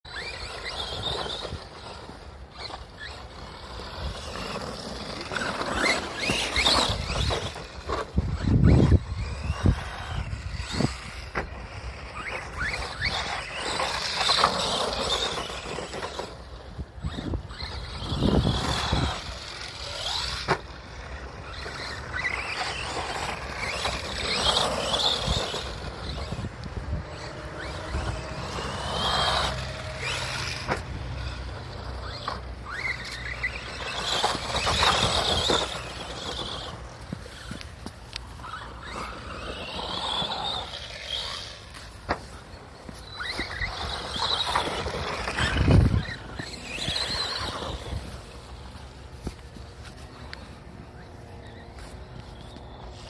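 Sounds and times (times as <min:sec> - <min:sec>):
electric motor whining: 0:00.1 - 0:53.0.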